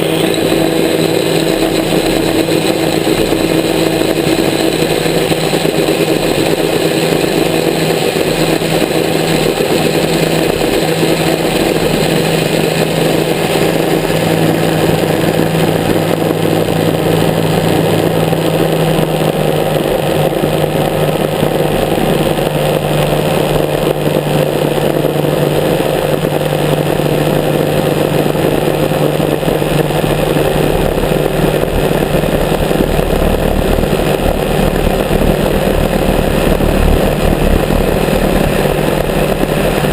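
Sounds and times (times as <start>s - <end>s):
seaplane piston engines running: 0.0s - 39.9s.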